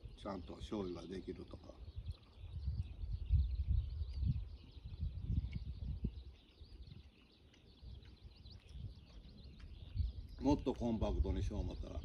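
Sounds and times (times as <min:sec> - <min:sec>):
birds chirping: 0:00.0 - 0:12.0
wind buffeting microphone: 0:00.0 - 0:12.0.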